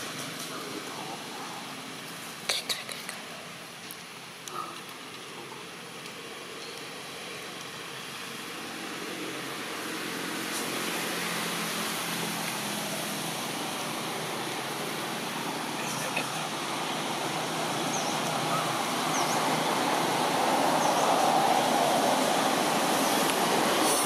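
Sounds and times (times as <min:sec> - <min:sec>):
rushing outdoor background noise: 0:00.0 - 0:24.0.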